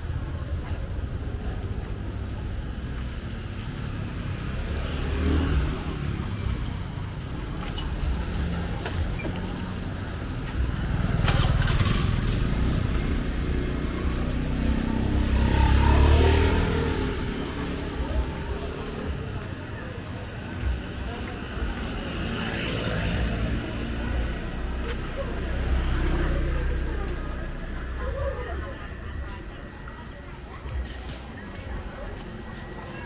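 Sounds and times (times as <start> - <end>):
passing traffic engines rumbling: 0.0 - 33.0.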